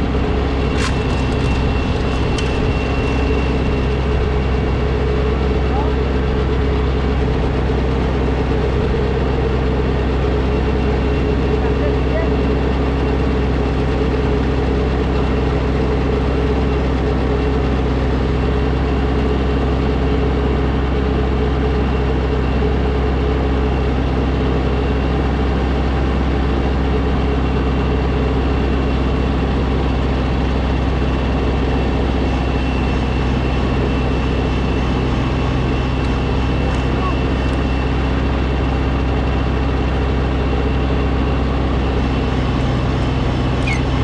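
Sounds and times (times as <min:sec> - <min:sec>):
snowblower engine running: 0:00.0 - 0:44.0.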